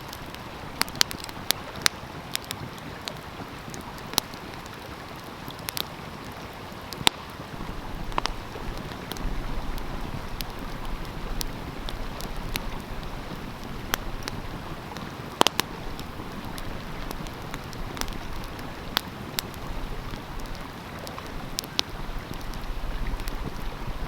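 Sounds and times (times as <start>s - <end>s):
stream flowing: 0.0s - 24.0s
wood fire crackling and popping: 0.0s - 24.0s.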